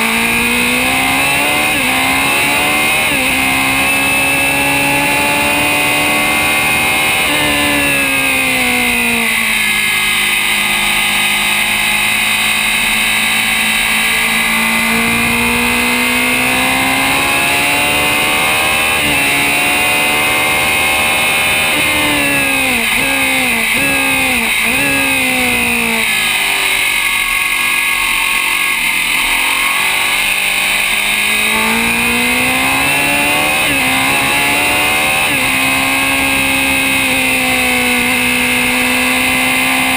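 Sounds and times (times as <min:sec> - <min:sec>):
gear changes: 0:00.0 - 0:39.9
race car engine at speed: 0:00.0 - 0:39.9.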